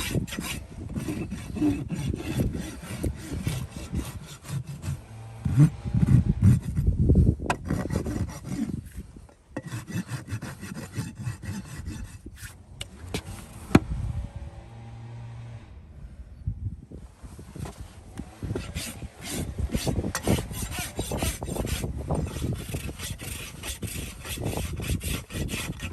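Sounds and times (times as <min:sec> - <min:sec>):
rasp filing hoof: 0:00.0 - 0:13.6, 0:17.6 - 0:25.9.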